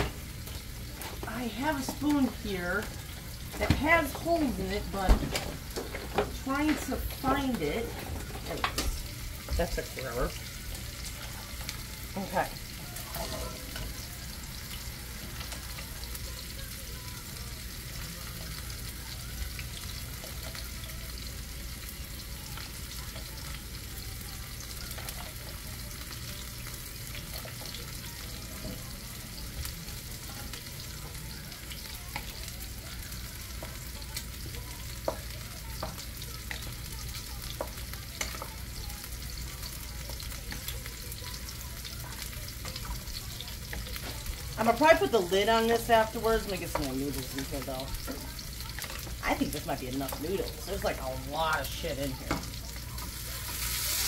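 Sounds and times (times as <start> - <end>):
food sizzling in skillet: 0.0 - 54.0.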